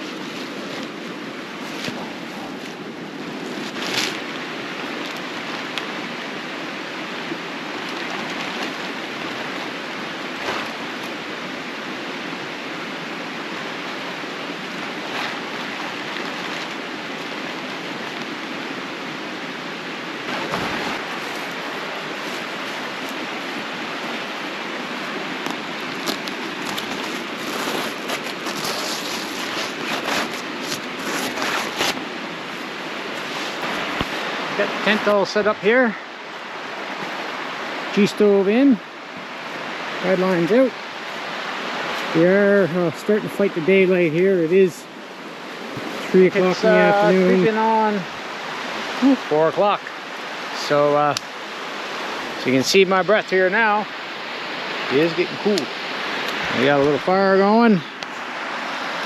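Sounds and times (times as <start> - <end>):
creek rushing: 0.0 - 59.0.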